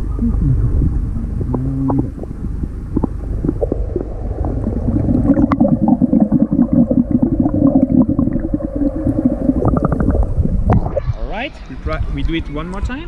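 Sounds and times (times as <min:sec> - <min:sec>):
underwater bubbling gurgle: 0:00.0 - 0:11.4
low water rumble: 0:00.0 - 0:13.0.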